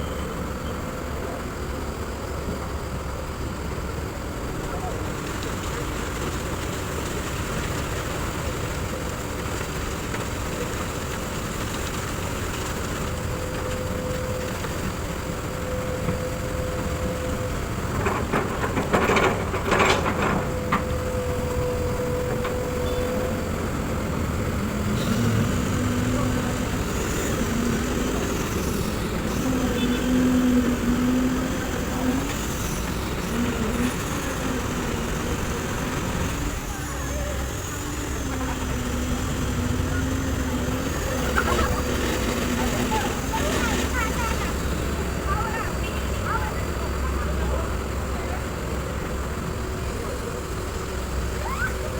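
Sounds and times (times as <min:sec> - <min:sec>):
excavator diesel engine whine: 0:00.0 - 0:51.9.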